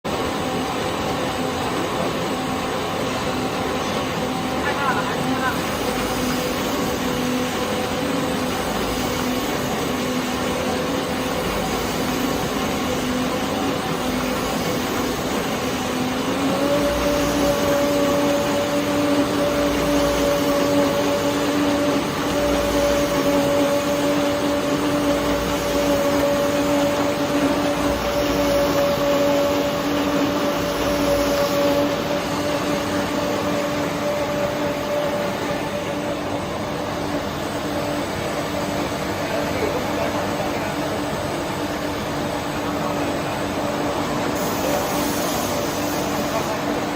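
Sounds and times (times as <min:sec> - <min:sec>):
sanding machine humming: 0:00.1 - 0:39.3.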